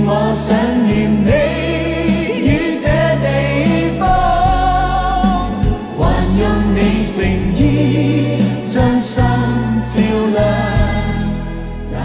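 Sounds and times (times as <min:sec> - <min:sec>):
backing music: 0:00.0 - 0:12.0
sustained bass notes: 0:00.0 - 0:12.0.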